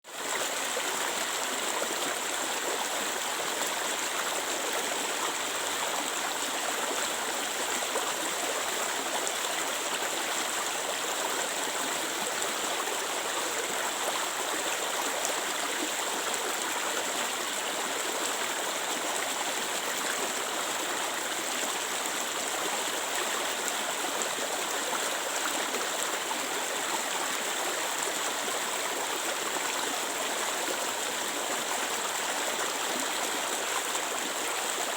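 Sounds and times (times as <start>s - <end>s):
stream water flowing and splashing: 0.1s - 34.9s.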